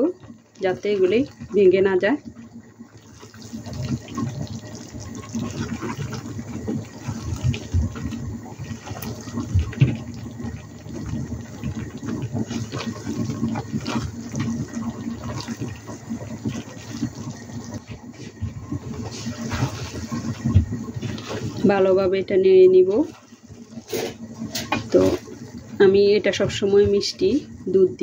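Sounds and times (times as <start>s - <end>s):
wooden spatula stirring wet sauce: 0.0s - 27.3s.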